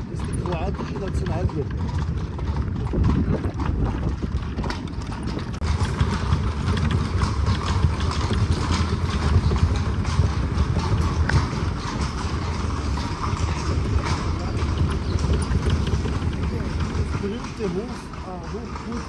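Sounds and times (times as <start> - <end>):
carriage rolling rumble: 0.0 - 19.0
horse hooves clip-clopping: 0.0 - 19.0.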